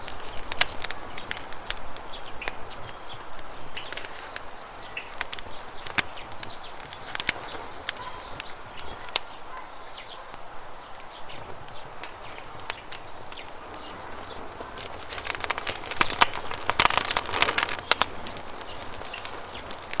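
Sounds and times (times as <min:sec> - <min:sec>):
campfire crackling and popping: 0:00.0 - 0:20.0
bird chirps: 0:00.1 - 0:20.0.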